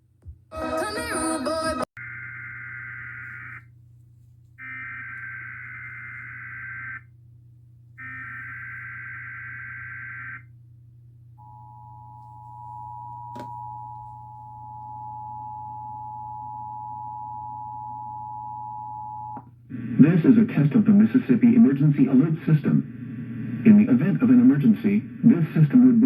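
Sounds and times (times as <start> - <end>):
faint low hum: 2.1 - 26.0.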